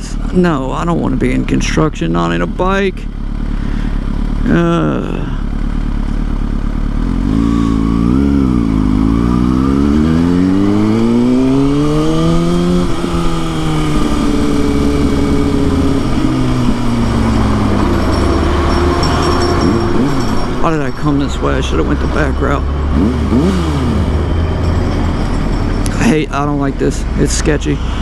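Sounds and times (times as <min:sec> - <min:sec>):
motorcycle engine revving: 0:00.0 - 0:28.0
wind and road noise: 0:00.0 - 0:28.0.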